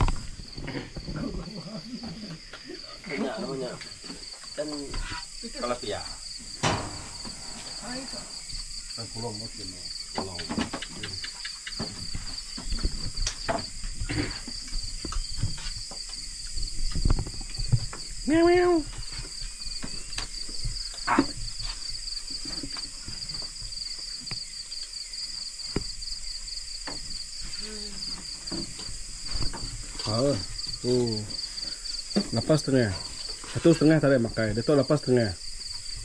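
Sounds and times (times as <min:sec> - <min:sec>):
night insects trilling: 0:00.0 - 0:36.0.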